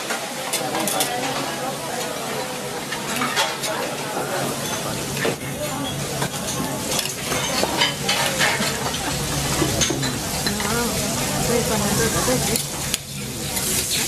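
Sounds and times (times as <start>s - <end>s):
fat sizzling on a griddle: 0.0s - 14.0s
metal utensils clinking: 0.0s - 14.0s.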